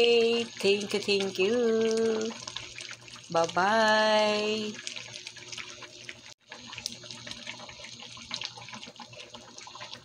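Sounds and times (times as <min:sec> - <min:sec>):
soup bubbling on the boil: 0:00.0 - 0:10.0.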